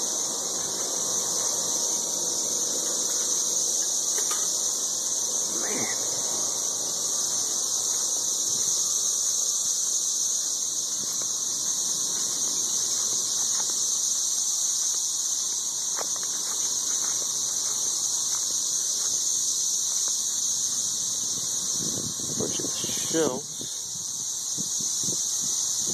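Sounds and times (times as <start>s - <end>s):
cicadas chorus whine: 0.0s - 25.9s.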